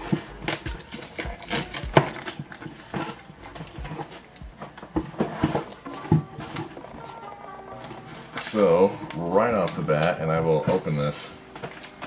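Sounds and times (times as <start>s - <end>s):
cardboard and tape rustling: 0.0s - 12.0s.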